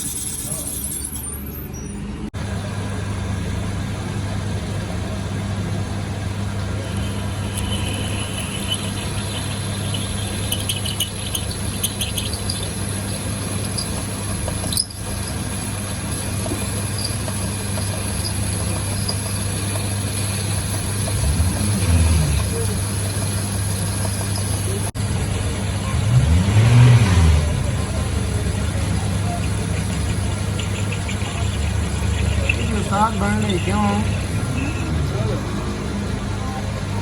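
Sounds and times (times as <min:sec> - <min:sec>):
workshop machine humming: 0:02.0 - 0:37.0.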